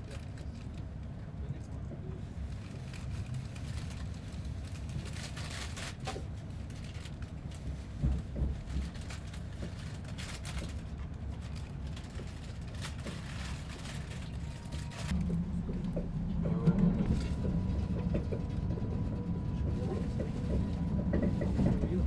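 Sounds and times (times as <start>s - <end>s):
train rumbling from inside: 0.0s - 22.0s.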